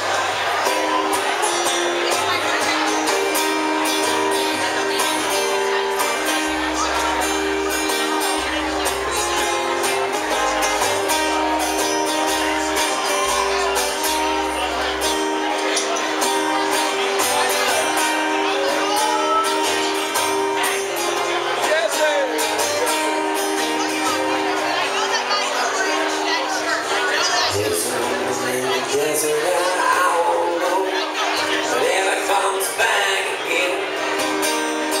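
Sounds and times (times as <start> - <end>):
bass guitar: 0.0 - 35.0
guitars playing: 0.0 - 35.0.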